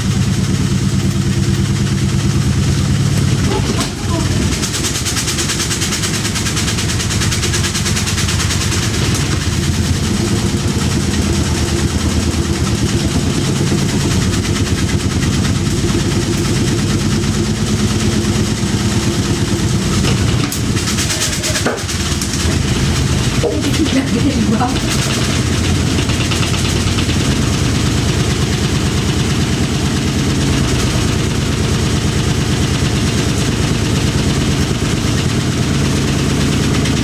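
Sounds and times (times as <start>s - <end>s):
washing machine spinning and banging: 0.0s - 37.0s.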